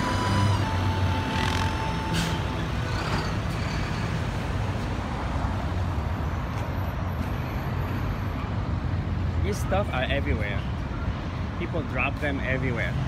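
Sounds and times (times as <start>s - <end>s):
car and truck engines running: 0.0s - 13.0s.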